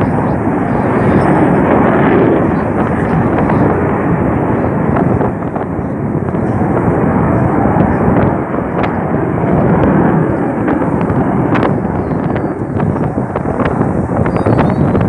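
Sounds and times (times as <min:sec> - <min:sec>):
jet engine flying overhead: 0:00.0 - 0:15.0.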